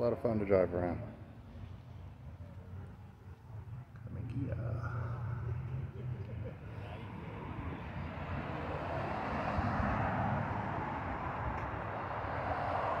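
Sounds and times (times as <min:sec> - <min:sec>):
road traffic rushing past: 0:00.0 - 0:13.0.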